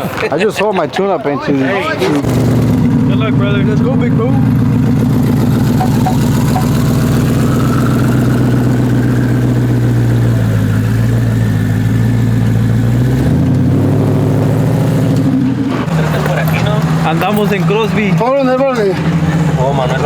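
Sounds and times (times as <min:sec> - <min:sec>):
truck engine idling: 0:00.9 - 0:20.0.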